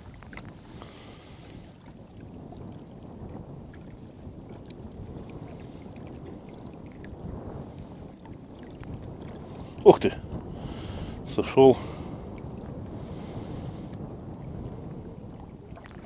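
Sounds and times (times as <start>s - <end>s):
water lapping against rocks: 0.0s - 16.0s
wind rumbling on microphone: 0.0s - 16.0s.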